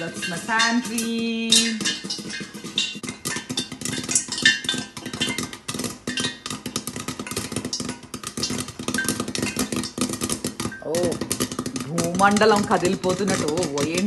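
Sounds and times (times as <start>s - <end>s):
popcorn popping in a lidded pan: 0.0s - 14.0s.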